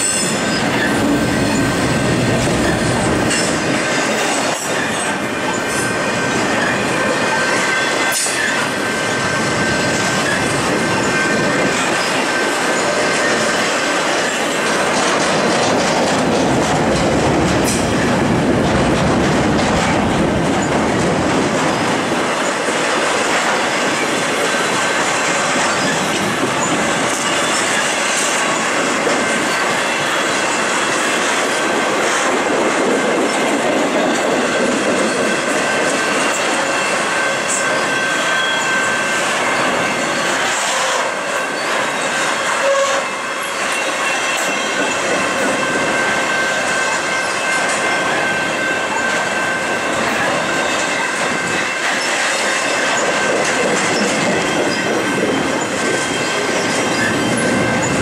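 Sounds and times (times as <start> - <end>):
high wheel squeal: 0.0 - 15.0, 23.5 - 31.2, 34.0 - 58.0
steel wheels clacking on rail: 0.0 - 58.0.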